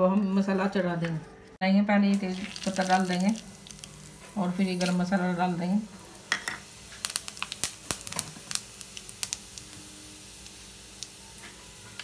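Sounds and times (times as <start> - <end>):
faint oil sizzle: 2.1 - 12.0
spices crackling in hot oil: 2.1 - 12.0.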